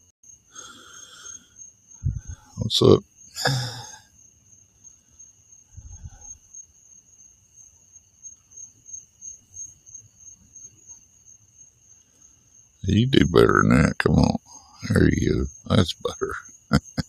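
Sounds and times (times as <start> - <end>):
insects trilling: 0.2 - 17.0.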